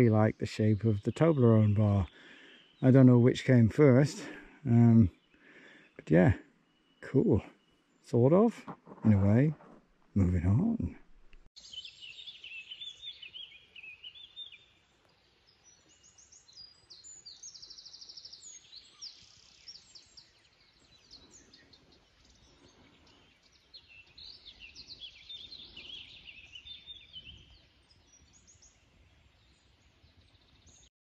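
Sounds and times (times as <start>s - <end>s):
songbirds chirping: 0.0s - 30.9s.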